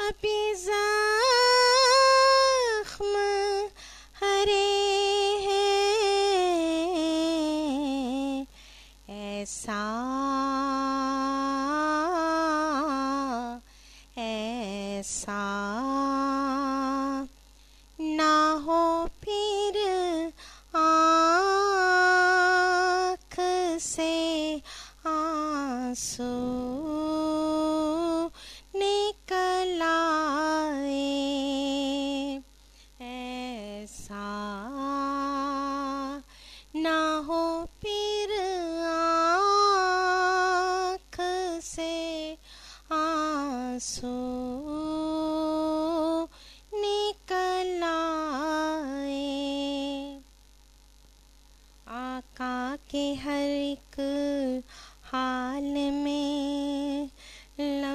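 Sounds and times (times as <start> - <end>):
woman singing unaccompanied: 0.0 - 17.4, 18.0 - 50.3, 51.8 - 57.9.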